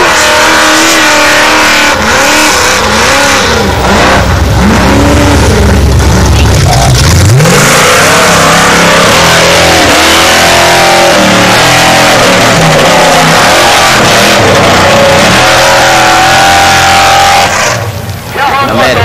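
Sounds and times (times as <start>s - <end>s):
buggy engine revving hard: 0.0s - 18.0s.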